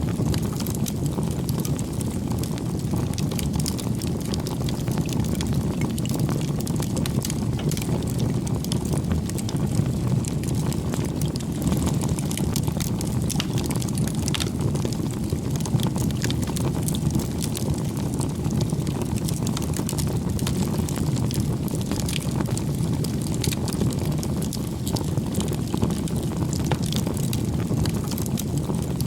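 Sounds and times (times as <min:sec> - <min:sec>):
bonfire crackling: 0:00.0 - 0:29.0.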